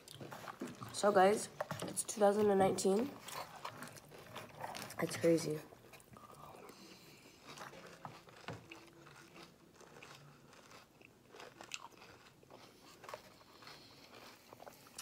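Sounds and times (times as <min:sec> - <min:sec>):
crunching and chewing cereal: 0:00.0 - 0:15.0.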